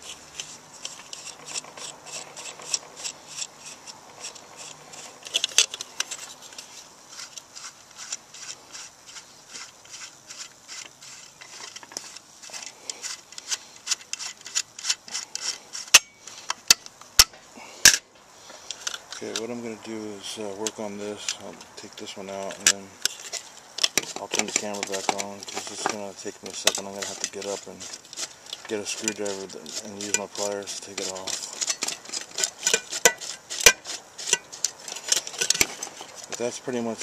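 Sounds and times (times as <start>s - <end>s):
small metal parts clicking and scraping: 0.0s - 37.0s.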